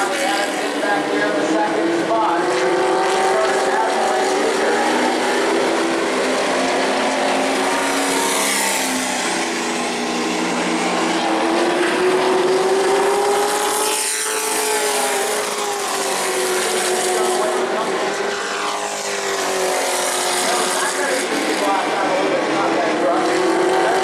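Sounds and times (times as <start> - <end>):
race truck engines: 0.0 - 24.0.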